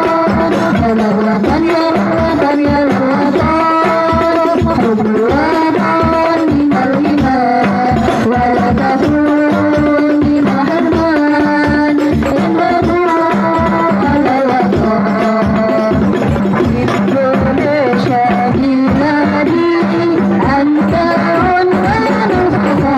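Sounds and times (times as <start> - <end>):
hand-drum beat: 0.0 - 22.9
women singing devotional song: 0.0 - 22.9.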